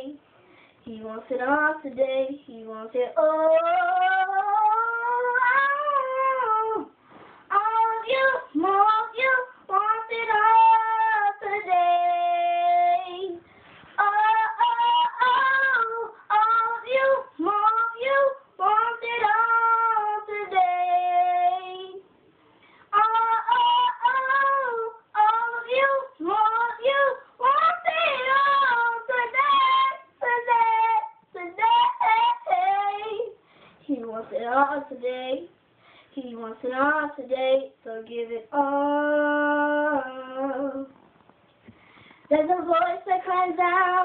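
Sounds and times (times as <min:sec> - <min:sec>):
girl singing unaccompanied: 0:00.0 - 0:22.1, 0:22.9 - 0:41.0, 0:42.2 - 0:44.0.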